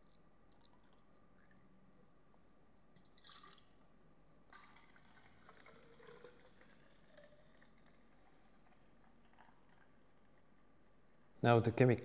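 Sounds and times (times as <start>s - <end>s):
water trickling into plastic cylinder: 0.0s - 2.3s, 2.9s - 3.8s, 4.5s - 11.4s.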